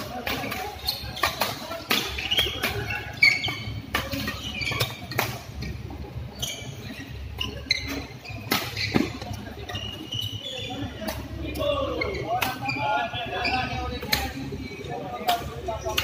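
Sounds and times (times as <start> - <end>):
shoes squeaking on court: 0.1 - 16.0.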